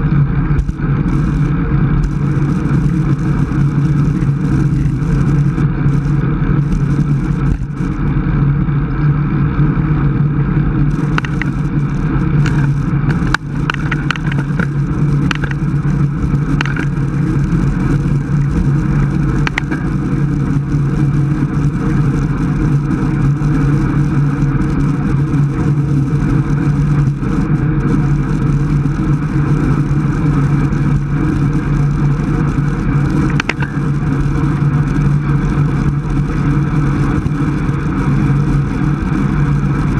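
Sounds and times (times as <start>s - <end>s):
bicycle tyre road noise: 0.0s - 39.9s
wind on microphone: 0.0s - 39.9s.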